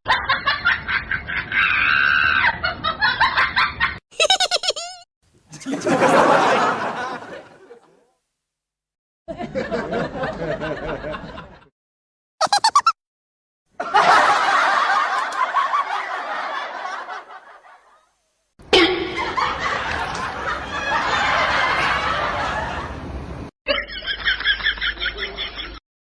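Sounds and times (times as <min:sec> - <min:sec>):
people laughing: 0:00.1 - 0:08.0, 0:09.3 - 0:11.7, 0:13.8 - 0:18.0, 0:18.7 - 0:25.8.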